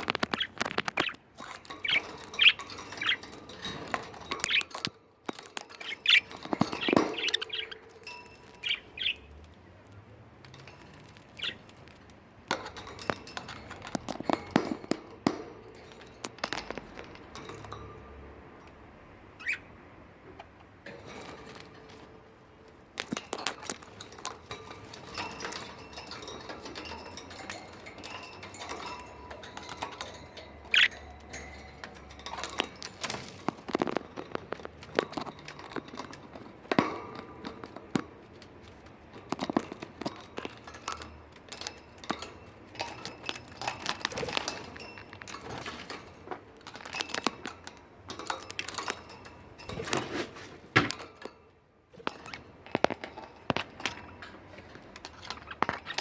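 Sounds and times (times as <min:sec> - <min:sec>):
birds tapping in cage: 0:00.0 - 0:56.0.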